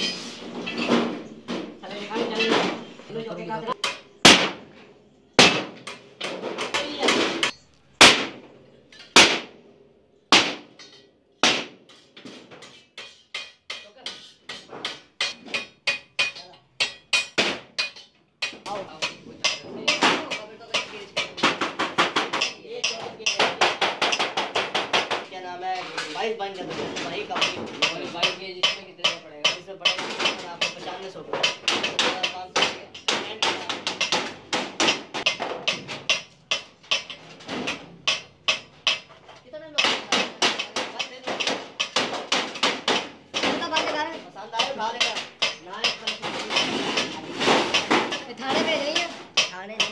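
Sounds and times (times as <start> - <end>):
hammer on sheet metal: 3.8 - 4.6, 5.4 - 8.4, 9.0 - 9.6, 10.3 - 39.1, 39.7 - 49.9.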